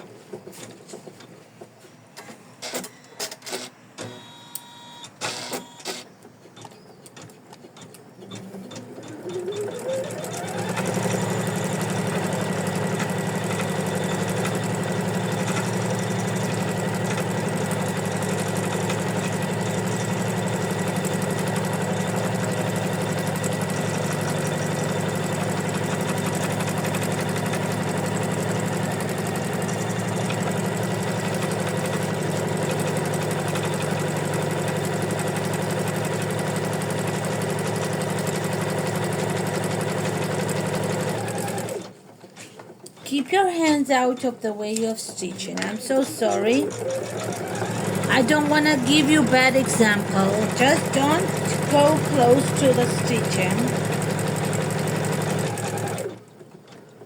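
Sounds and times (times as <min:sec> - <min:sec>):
embroidery machine stitching: 0:02.6 - 0:43.2, 0:44.0 - 0:57.0.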